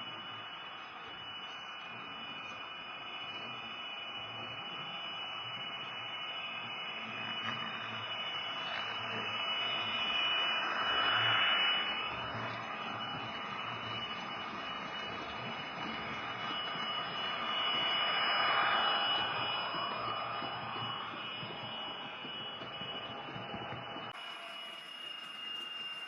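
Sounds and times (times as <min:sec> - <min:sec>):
thin high whine: 0:00.0 - 0:26.0.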